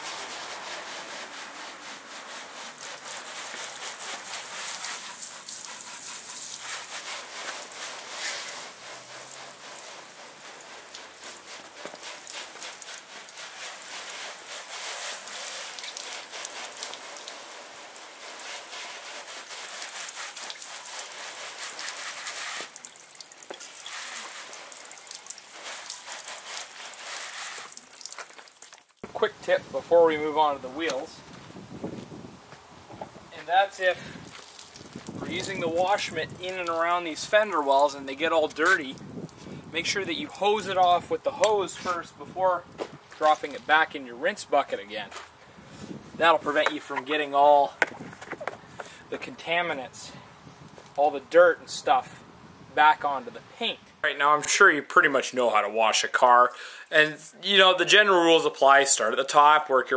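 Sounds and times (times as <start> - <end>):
hose spraying water on car: 0.0 - 31.9, 33.4 - 49.9.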